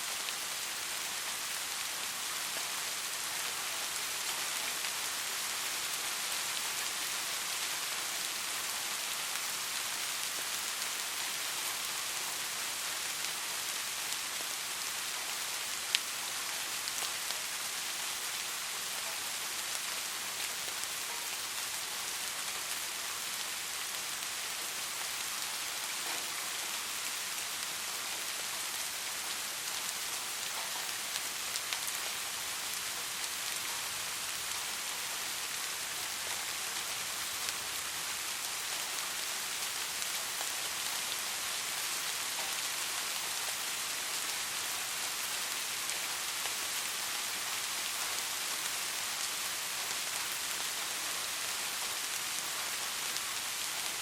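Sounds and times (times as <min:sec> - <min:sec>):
soft rain: 0:00.0 - 0:54.0.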